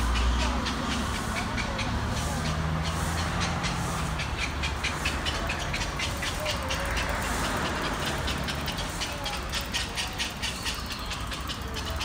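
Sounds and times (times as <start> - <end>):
birds clicking chatter: 0.0 - 12.0.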